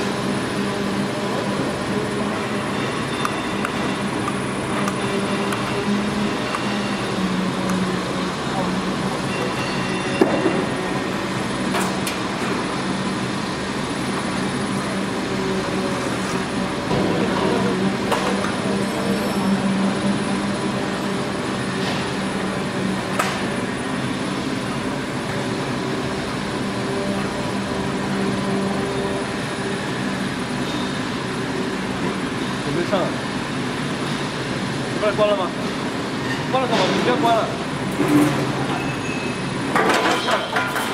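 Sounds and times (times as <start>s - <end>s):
machine droning: 0.0s - 36.2s.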